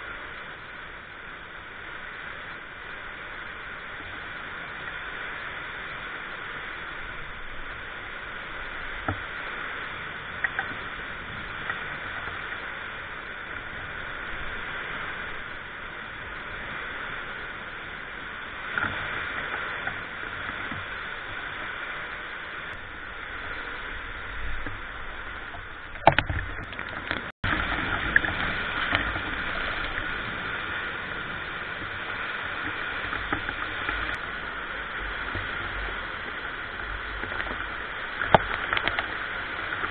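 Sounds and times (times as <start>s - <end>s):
heavy rain and wind rushing: 0.0s - 39.9s.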